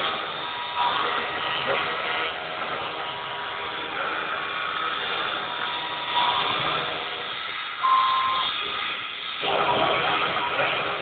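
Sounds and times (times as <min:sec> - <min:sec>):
milling spindle cutting metal: 0:00.0 - 0:11.0
sharp cutting tone: 0:00.0 - 0:11.0.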